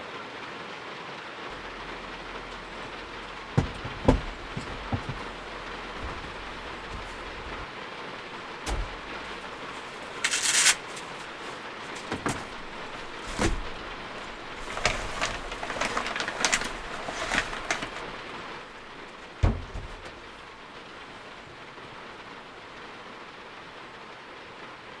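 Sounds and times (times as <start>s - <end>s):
heavy rain on van roof: 1.0s - 25.0s
clicks and knocks of handling: 1.6s - 7.7s, 8.3s - 22.3s.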